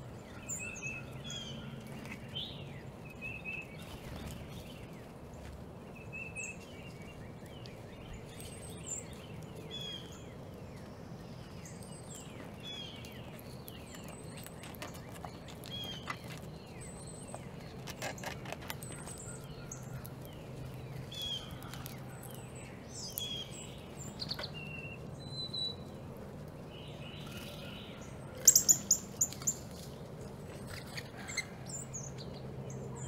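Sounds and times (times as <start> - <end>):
outdoor background hum: 0.0 - 33.0
small birds chirping: 0.0 - 33.0.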